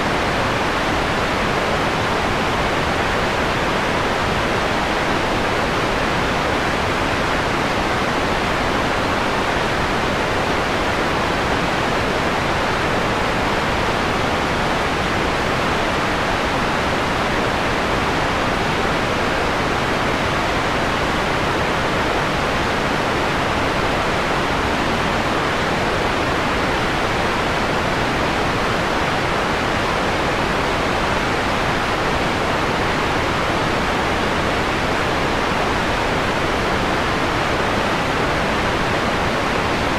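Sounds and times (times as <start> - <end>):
filtered synthetic noise hiss: 0.0 - 39.9.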